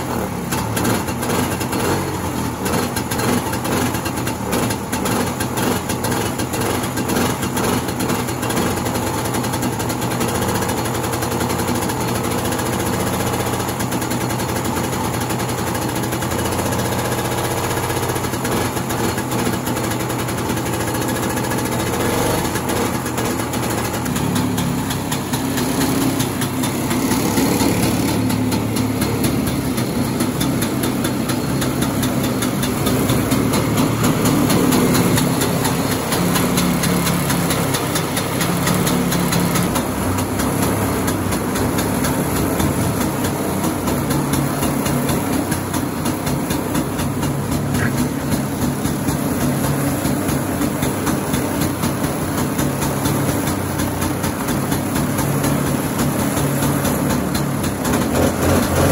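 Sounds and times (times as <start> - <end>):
snowmobile engine idling: 0.0 - 58.9.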